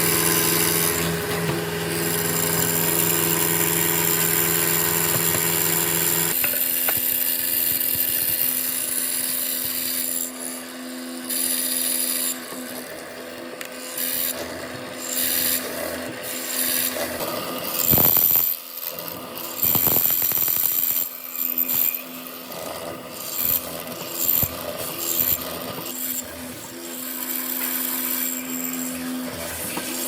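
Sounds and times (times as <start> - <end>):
tool rasping on wood: 0.0 - 10.7, 11.3 - 13.0, 13.8 - 30.0.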